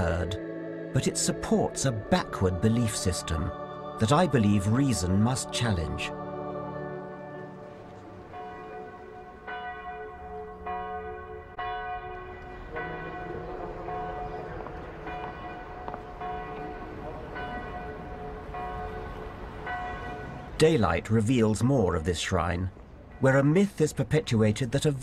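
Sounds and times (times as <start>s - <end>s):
church bells ringing: 0.0s - 24.7s.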